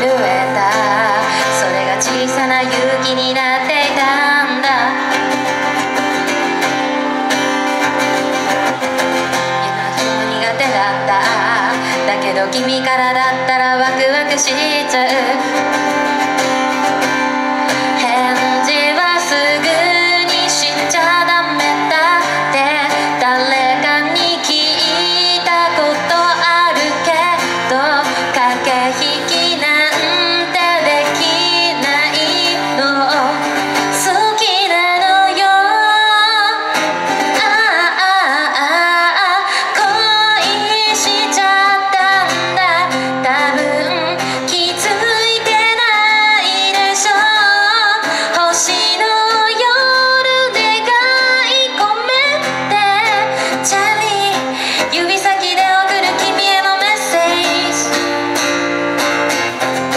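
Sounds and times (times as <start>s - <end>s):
acoustic guitar strumming: 0.0s - 59.9s
woman singing pop song: 0.0s - 59.9s.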